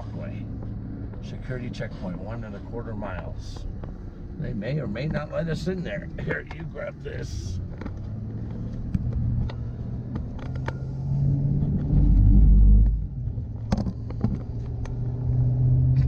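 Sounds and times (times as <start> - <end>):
deep rumble: 0.0 - 16.0
truck engine and road hum: 0.0 - 16.0.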